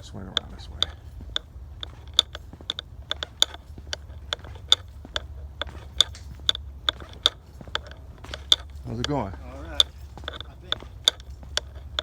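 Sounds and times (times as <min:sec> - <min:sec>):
footsteps crunching on dry trail: 0:00.0 - 0:12.0.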